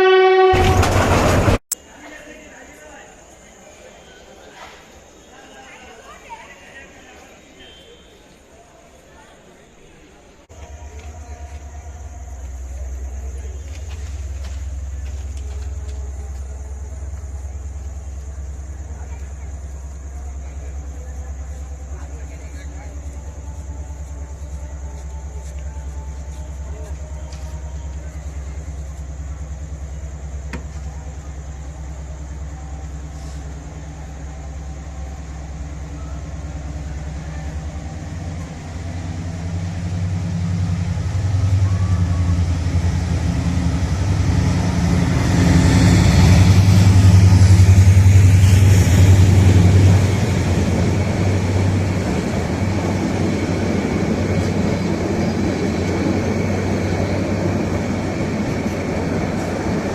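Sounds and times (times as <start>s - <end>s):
heavy vehicle engine droning: 10.4s - 59.9s.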